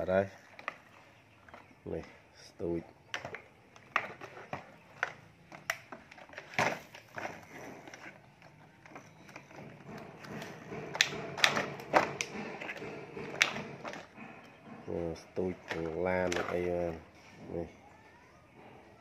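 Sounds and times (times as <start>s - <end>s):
handling rustle: 0.0s - 17.5s
plastic toy vehicles clicking: 0.0s - 19.0s.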